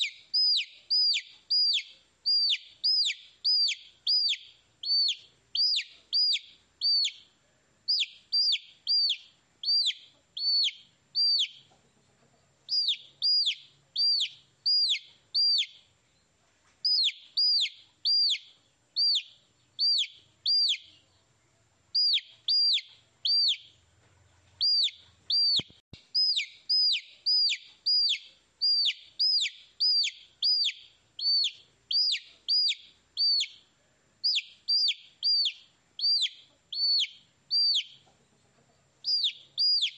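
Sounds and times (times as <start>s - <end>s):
baby chick peeping: 0.0s - 39.9s.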